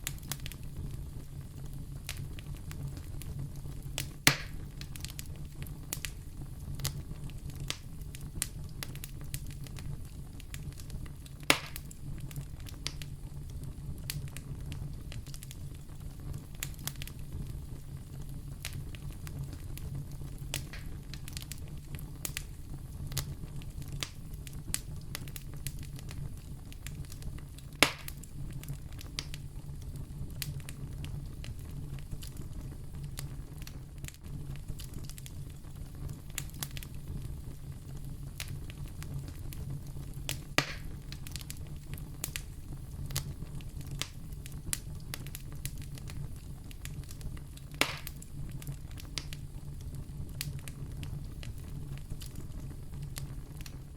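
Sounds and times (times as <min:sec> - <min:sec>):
fire sharp pops: 0:00.0 - 0:53.9
wood fire crackling: 0:00.0 - 0:53.9.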